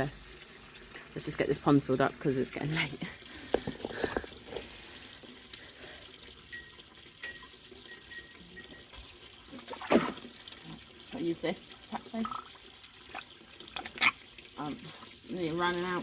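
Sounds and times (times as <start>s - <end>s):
water running from a hose: 0.0s - 16.0s.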